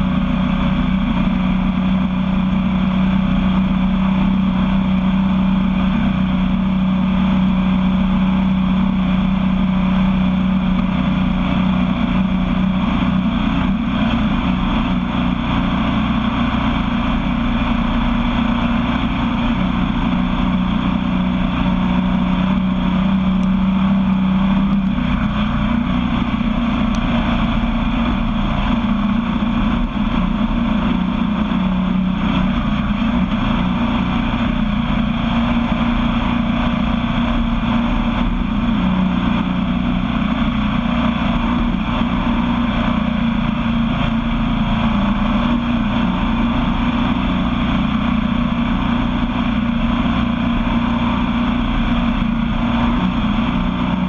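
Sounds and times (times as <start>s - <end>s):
engine running steadily: 0.0s - 54.0s
tyres on dirt track: 0.0s - 54.0s.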